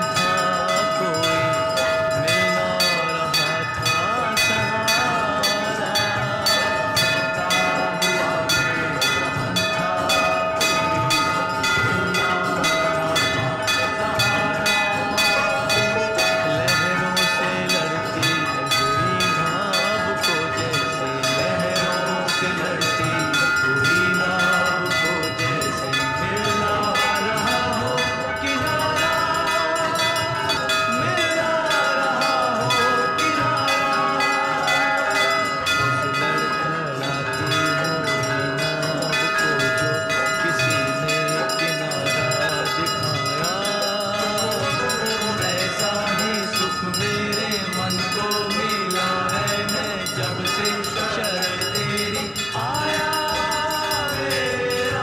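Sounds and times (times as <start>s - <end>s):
murmur of voices: 0.0s - 55.0s
temple bells ringing: 0.0s - 55.0s.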